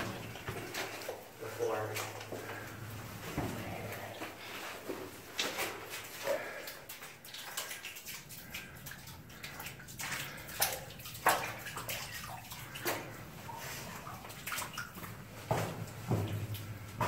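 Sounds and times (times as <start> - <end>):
footsteps splashing through water: 3.3 - 17.0.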